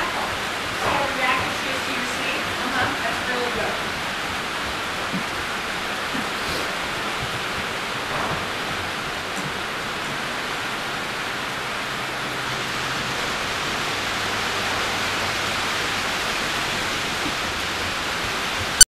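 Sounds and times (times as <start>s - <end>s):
steady hiss: 0.0s - 18.8s.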